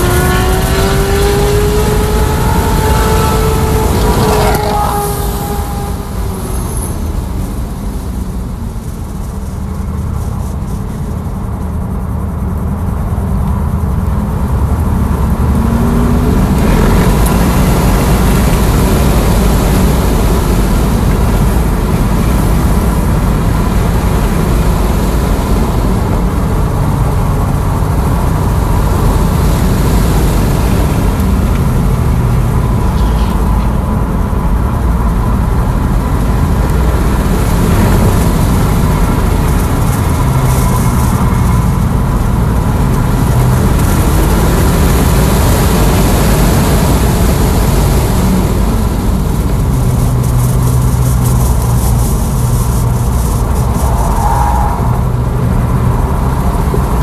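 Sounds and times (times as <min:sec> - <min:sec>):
road tyre and wind noise: 0:00.0 - 0:57.0.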